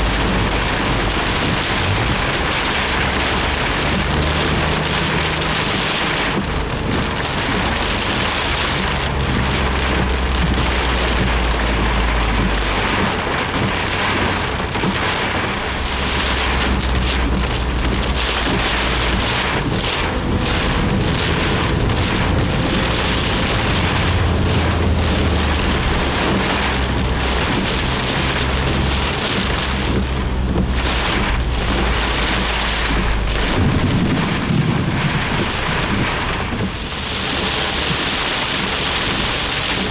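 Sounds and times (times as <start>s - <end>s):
heavy rain on car roof: 0.0s - 39.9s
low rumble: 0.0s - 39.9s.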